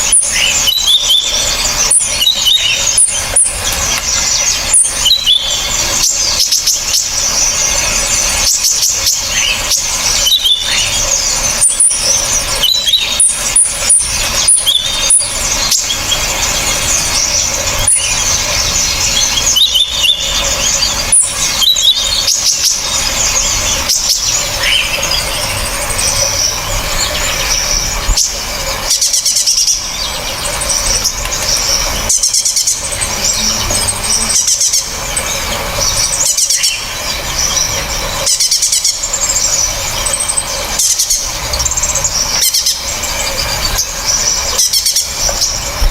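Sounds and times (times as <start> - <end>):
songbird chirps and trills: 0.0 - 45.9.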